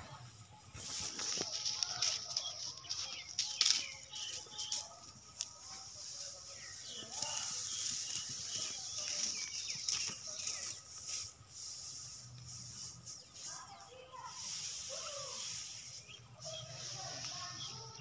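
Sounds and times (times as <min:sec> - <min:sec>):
birds chirping: 0:00.0 - 0:18.0
dry straw rustling: 0:00.0 - 0:18.0.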